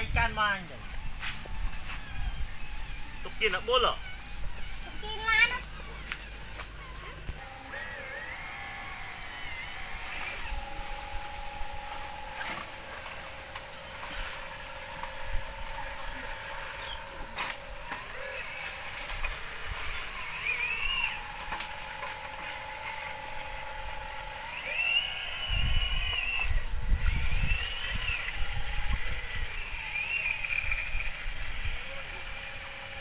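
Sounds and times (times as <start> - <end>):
low motor hum: 0.0 - 33.0
small electric motors whining: 0.0 - 33.0.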